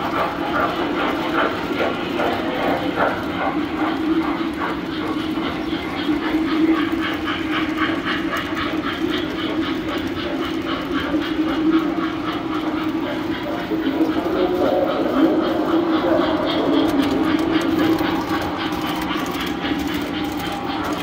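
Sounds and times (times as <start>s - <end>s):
model train motor hum: 0.0s - 21.0s
wheels clicking over rail joints: 0.0s - 21.0s.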